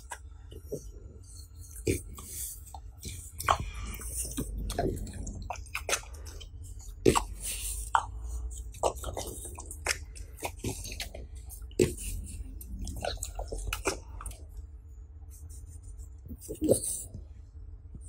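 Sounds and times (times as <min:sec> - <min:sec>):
dog crunching carrot: 0:00.0 - 0:14.6.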